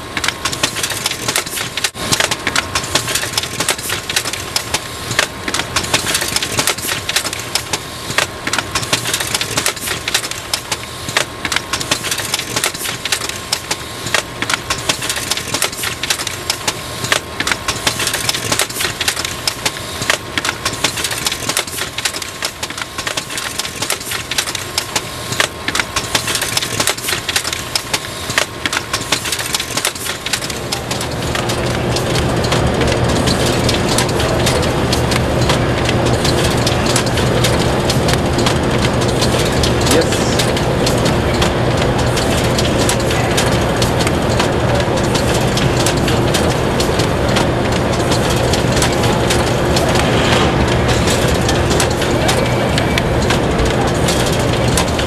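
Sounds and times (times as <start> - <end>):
machine running with low hum: 0.0 - 55.0
mailing machine clicking and clatter: 0.0 - 55.0.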